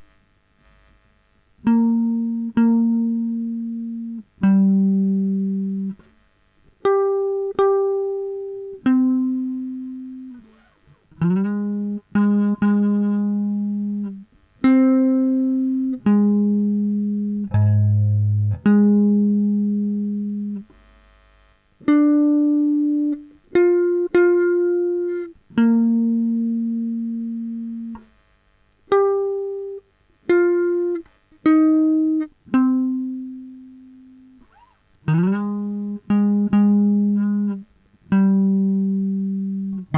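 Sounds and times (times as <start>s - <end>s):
guitar plucked notes: 1.6s - 6.1s, 6.8s - 20.7s, 21.8s - 28.1s, 28.9s - 39.9s.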